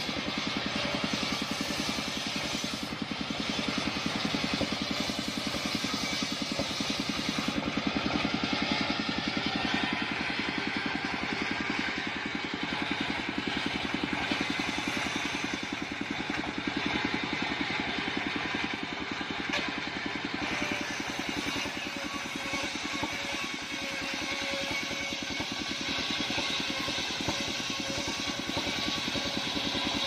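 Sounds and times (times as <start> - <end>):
circular saw engine running: 0.0 - 30.0.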